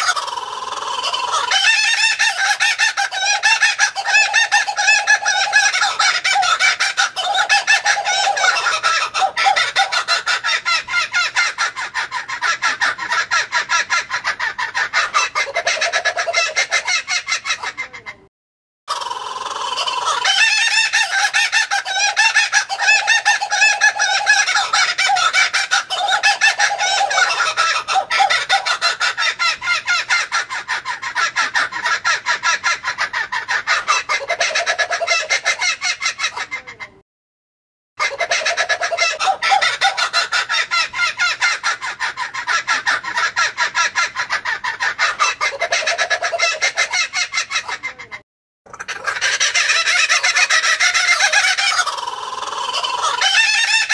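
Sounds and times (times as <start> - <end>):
kookaburras laughing: 0.0 - 18.3, 18.9 - 37.0, 38.0 - 53.9.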